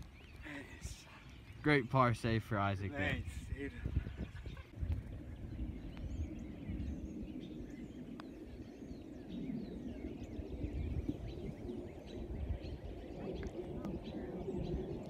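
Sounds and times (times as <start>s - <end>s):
small birds chirping: 0.0s - 15.0s
wind rumbling on microphone: 0.0s - 15.0s.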